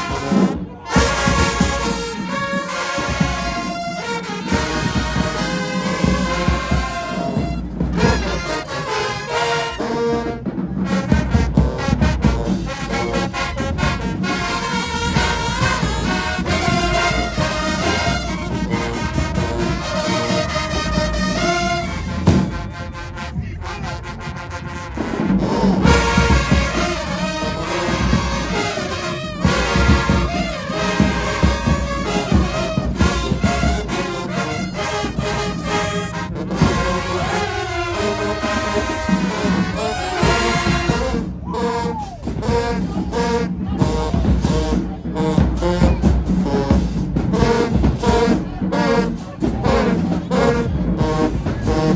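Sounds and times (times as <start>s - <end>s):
sharp drum strokes: 0.0s - 22.7s, 25.1s - 51.9s
marching band playing: 0.0s - 51.9s.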